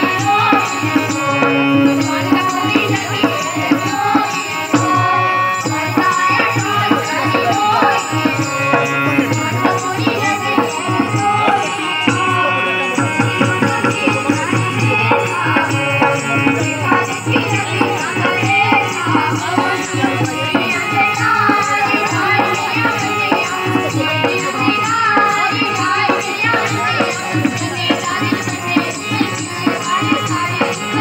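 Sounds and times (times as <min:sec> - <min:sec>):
folk dance melody: 0:00.0 - 0:31.0.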